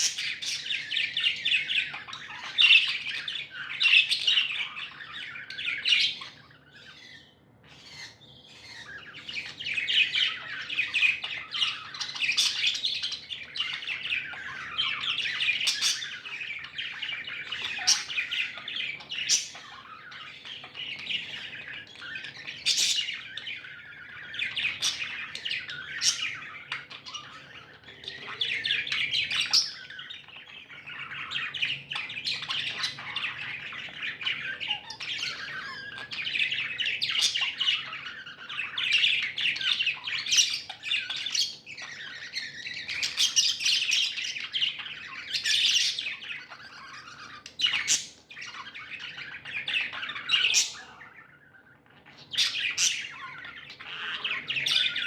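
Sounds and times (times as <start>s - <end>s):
bird squawks: 0.0s - 55.0s
budgerigars chirping and chattering: 0.0s - 55.0s.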